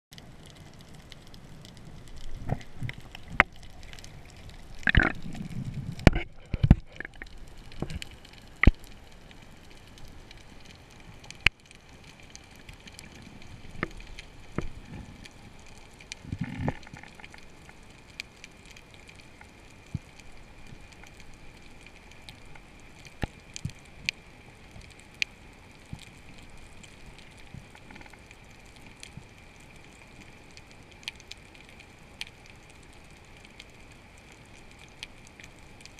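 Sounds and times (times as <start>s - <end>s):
faint steady hiss: 0.1s - 35.9s
rush of water and bubbles: 0.1s - 35.9s.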